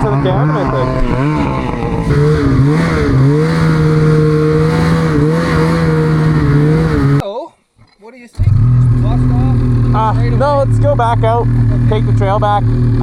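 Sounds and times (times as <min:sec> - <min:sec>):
snowmobile engine running: 0:00.0 - 0:07.2, 0:08.5 - 0:13.0.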